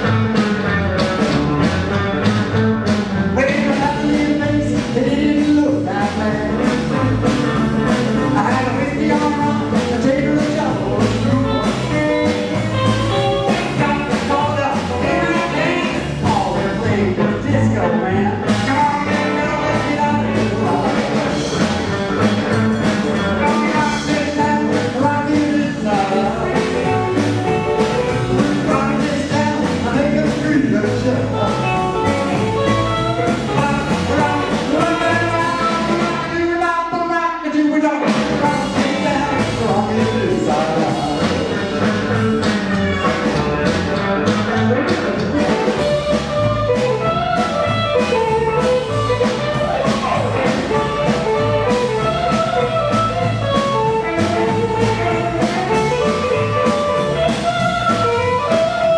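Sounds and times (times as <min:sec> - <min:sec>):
rockabilly band playing live: 0:00.0 - 0:58.9.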